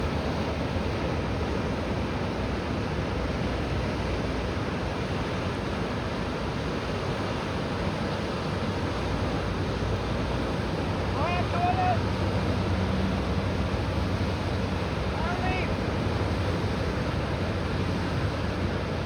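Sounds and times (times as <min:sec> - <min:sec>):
moving water: 0:00.0 - 0:19.0.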